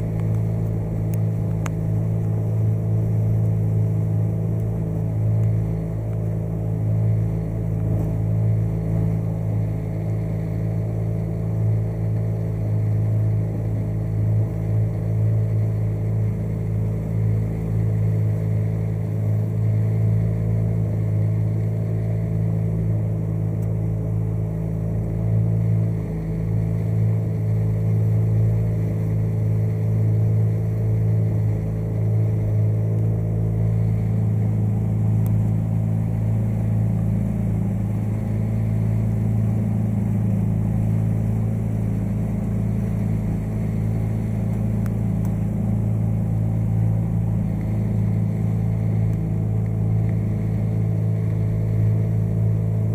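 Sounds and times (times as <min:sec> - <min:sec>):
motorboat engine droning: 0:00.0 - 0:52.9.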